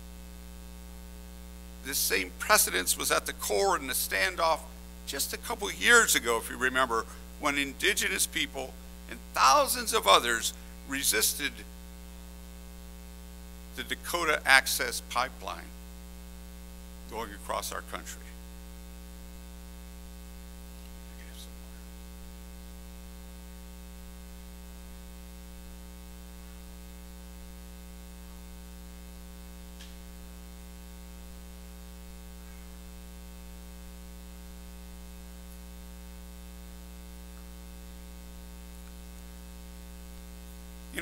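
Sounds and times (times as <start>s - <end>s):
electrical mains hum: 0.0s - 41.0s.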